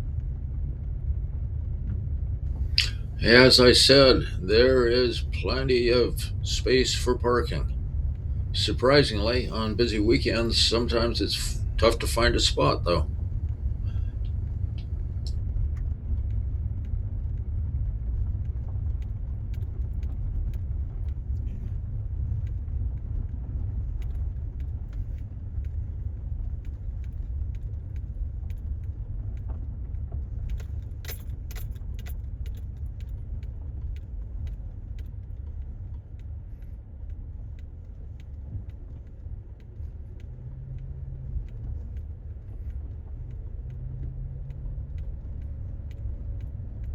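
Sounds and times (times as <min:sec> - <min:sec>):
car rumbling on dirt road: 0:00.0 - 0:46.9
light rattles and clicks: 0:01.8 - 0:46.9.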